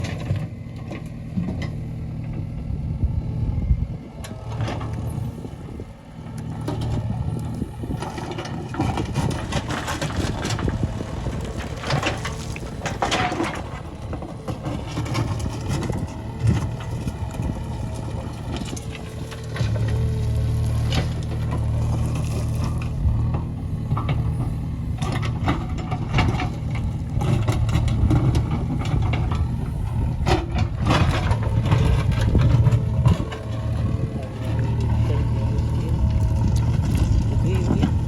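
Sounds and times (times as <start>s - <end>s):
metal clanks and scraping: 0.0s - 2.4s, 6.4s - 38.0s
diesel engine running: 0.0s - 38.0s.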